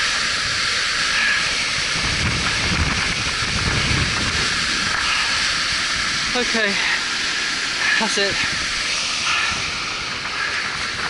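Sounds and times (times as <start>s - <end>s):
wind buffeting microphone: 0.0s - 6.8s, 8.0s - 11.0s
waterfall roaring: 0.0s - 11.0s.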